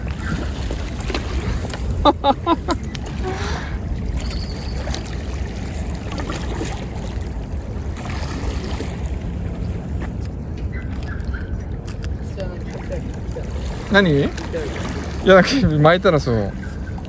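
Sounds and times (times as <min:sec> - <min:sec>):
small waves lapping on concrete: 0:00.0 - 0:17.0
wind rumbling on microphone: 0:00.0 - 0:17.0.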